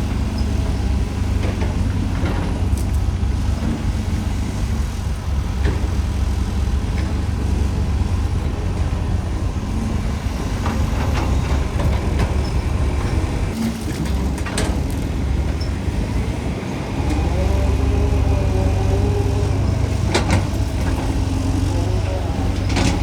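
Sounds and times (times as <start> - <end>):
diesel machinery engine rumble: 0.0 - 23.0.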